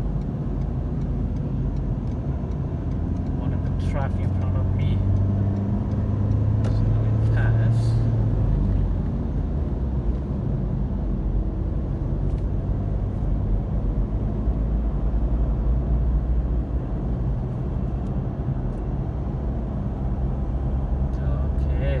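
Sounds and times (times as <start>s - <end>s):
car driving through tunnel: 0.0s - 22.0s.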